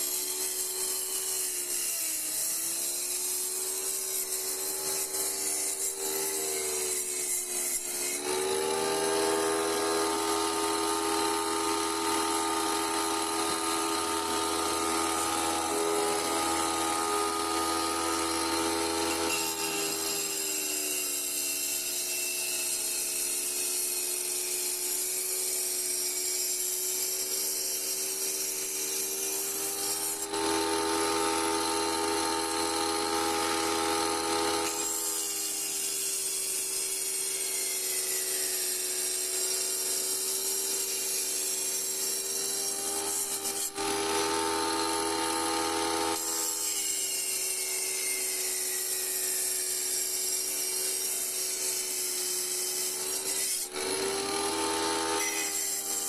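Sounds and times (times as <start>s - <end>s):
wet saw cutting glass: 0.0s - 56.0s.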